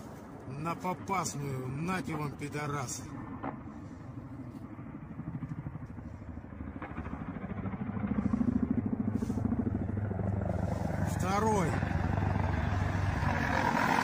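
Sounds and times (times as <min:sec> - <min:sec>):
helicopter rotors beating: 0:00.0 - 0:14.0.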